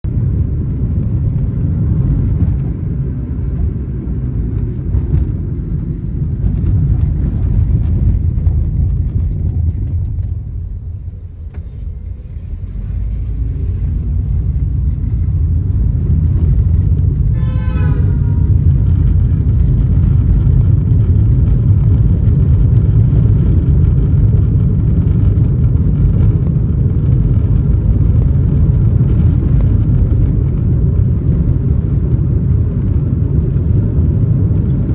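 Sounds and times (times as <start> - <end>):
road vehicles rumbling: 0.0 - 34.9.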